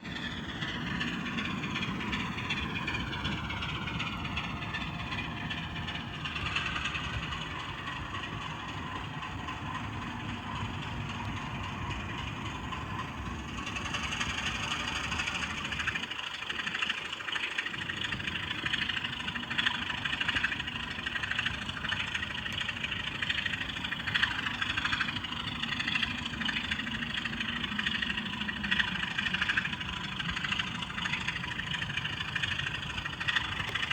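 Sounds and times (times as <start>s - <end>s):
model locomotive engine sound: 0.0s - 33.9s.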